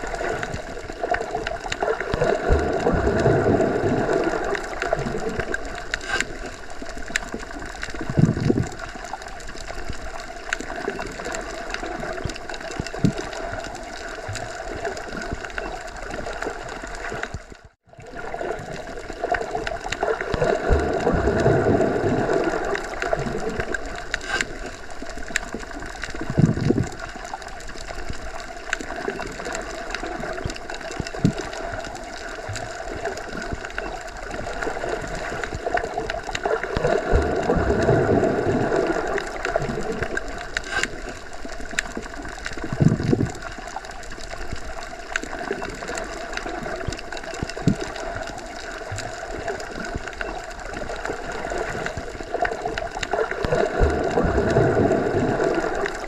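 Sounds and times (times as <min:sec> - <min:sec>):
low water swells: 0:00.0 - 0:56.0
underwater water noise: 0:00.0 - 0:56.0.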